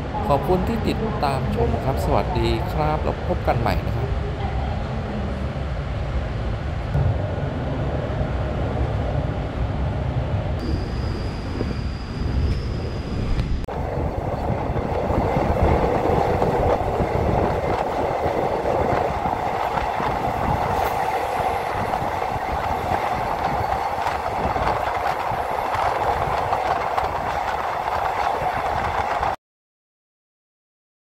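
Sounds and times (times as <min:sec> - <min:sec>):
train wheels rumbling on rails: 0:00.1 - 0:29.4.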